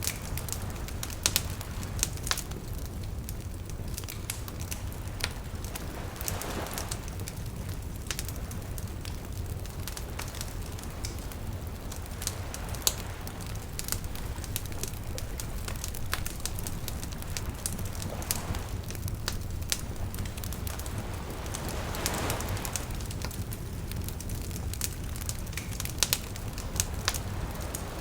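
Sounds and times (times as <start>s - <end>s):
campfire crackling and popping: 0.0s - 28.0s
low rumble of flame: 0.0s - 28.0s.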